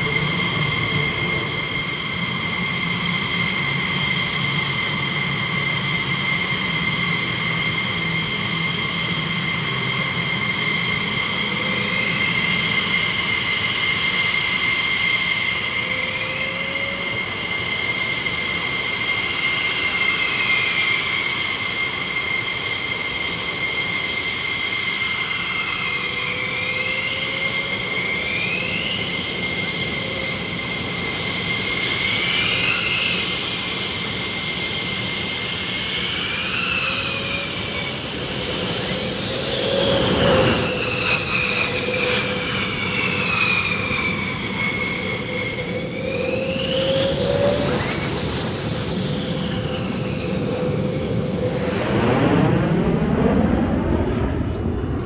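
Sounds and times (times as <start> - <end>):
jet engine whine: 0.0 - 55.0.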